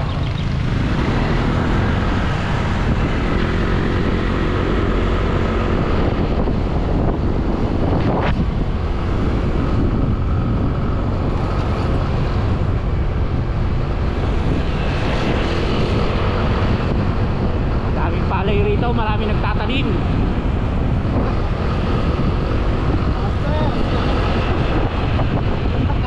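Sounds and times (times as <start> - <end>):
vehicle engine and road noise: 0.0 - 26.0
wind on microphone: 0.0 - 26.0.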